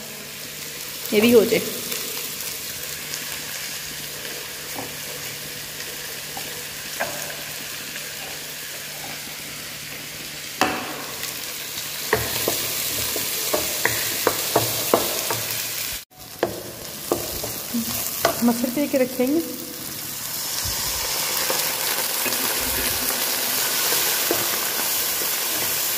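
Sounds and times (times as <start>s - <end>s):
vegetables sizzling in hot oil: 0.0s - 25.9s.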